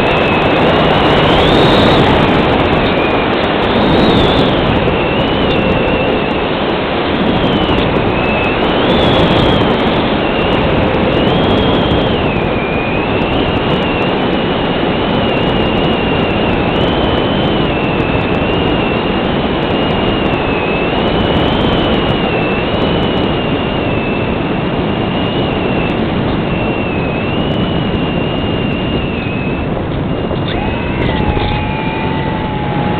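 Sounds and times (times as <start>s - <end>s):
electric motor whine: 0.0s - 32.9s
rushing airflow: 0.0s - 32.9s.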